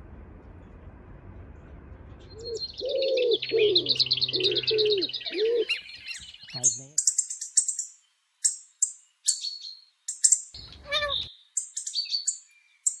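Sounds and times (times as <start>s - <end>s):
bird wavering call: 2.4s - 13.0s
goldfinch chirping: 2.5s - 13.0s.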